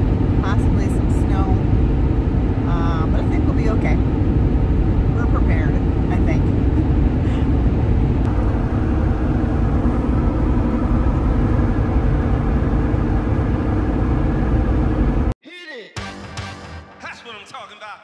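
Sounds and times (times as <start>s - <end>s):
car cabin road and engine noise: 0.0s - 15.4s.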